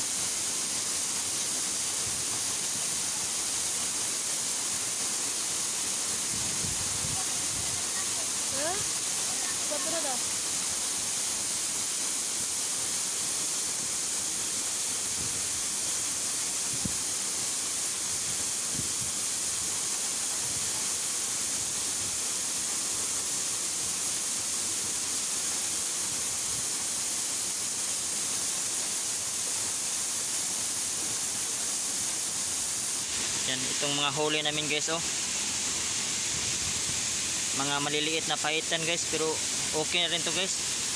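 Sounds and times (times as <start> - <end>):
waterfall hiss: 0.0 - 40.9.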